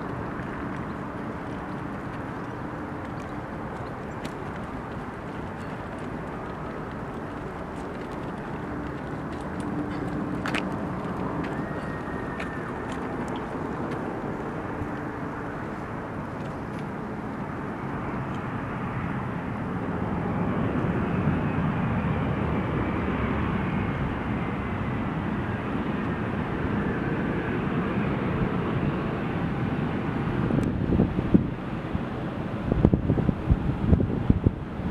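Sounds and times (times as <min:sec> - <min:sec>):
airliner engines passing: 0:00.0 - 0:34.9.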